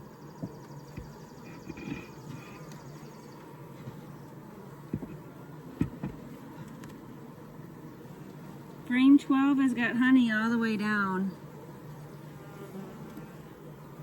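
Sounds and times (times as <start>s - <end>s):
bees humming: 0.0s - 14.0s.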